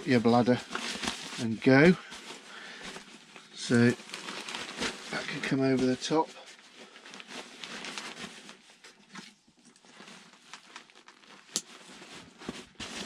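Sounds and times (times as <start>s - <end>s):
nylon fabric rustling: 0.0s - 13.0s.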